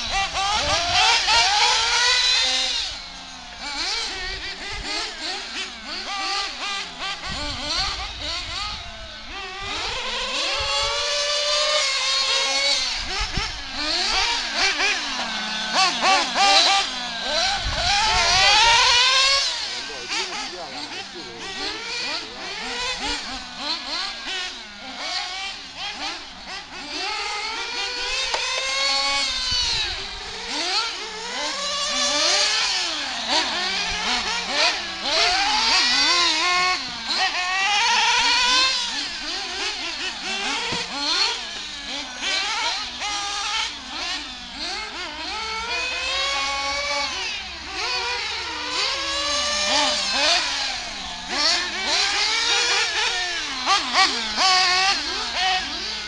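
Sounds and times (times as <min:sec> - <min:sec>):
rc buggy engines revving: 0:00.0 - 0:56.0.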